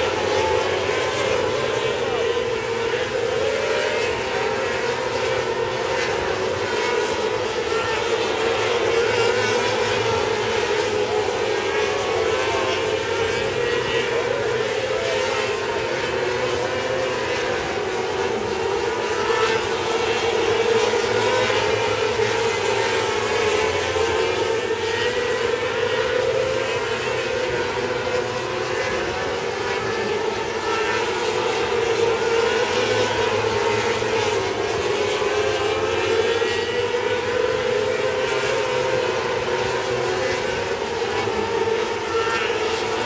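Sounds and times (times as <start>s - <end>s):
racing engine at high revs: 0.0s - 43.0s
wind and track noise: 0.0s - 43.0s.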